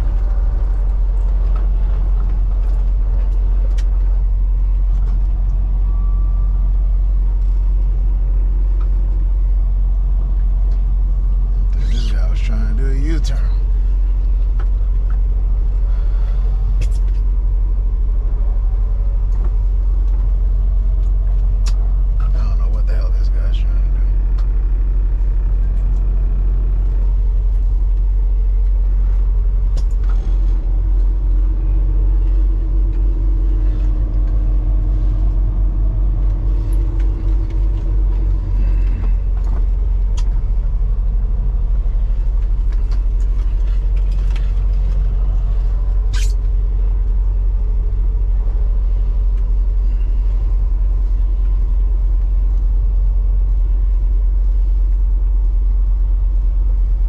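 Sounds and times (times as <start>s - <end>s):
diesel engine rumble: 0.0s - 57.0s
extra hum: 0.0s - 57.0s.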